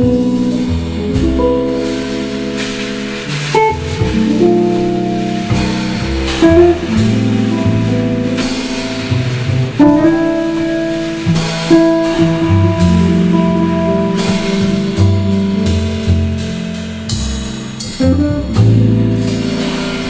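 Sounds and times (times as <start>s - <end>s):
electric guitar melody: 0.0s - 20.0s
soft brushed drums: 0.0s - 20.0s
walking upright bass: 0.0s - 20.0s.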